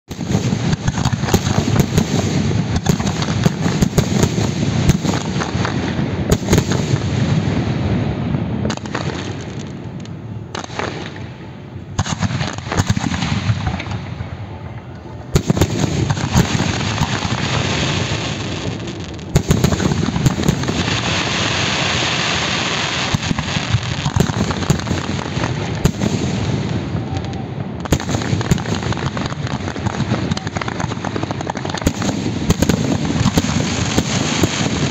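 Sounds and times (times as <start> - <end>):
fireworks bangs and crackling: 0.1 - 34.9.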